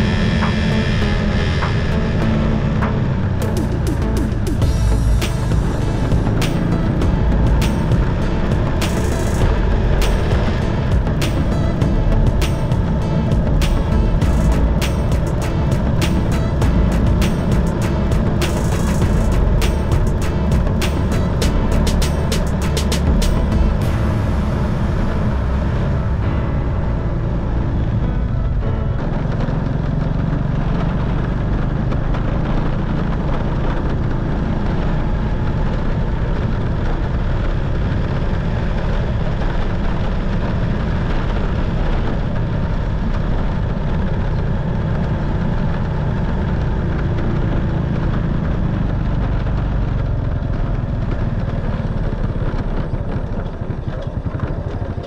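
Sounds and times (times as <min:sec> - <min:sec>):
motorcycle engine running: 0:00.0 - 0:55.0
road and wind rush: 0:00.0 - 0:55.0.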